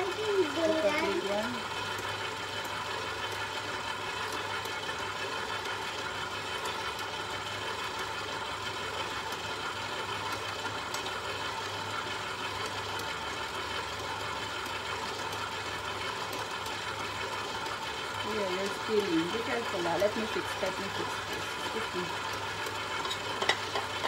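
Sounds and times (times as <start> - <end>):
stand mixer motor running: 0.0 - 24.0.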